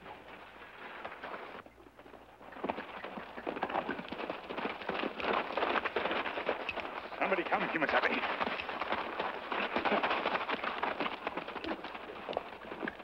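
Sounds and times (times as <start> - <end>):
horses galloping on dirt: 0.0 - 13.0.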